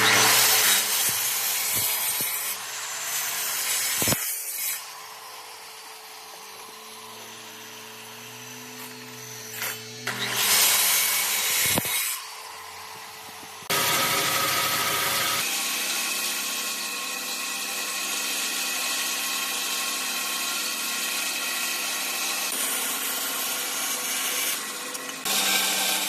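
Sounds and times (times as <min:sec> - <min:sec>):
power tool working wood: 0:00.0 - 0:26.0.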